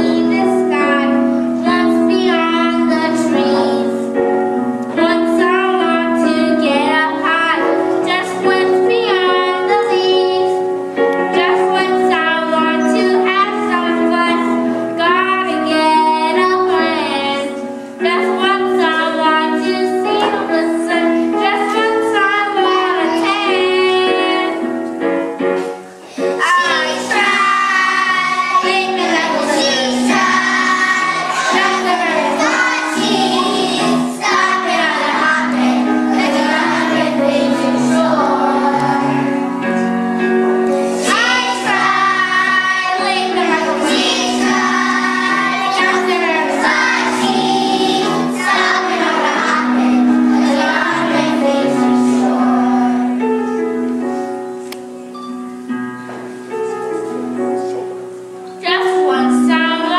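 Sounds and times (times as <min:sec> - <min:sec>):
young children singing: 0:00.0 - 0:24.9, 0:25.6 - 0:54.2
musical accompaniment: 0:00.0 - 0:59.9.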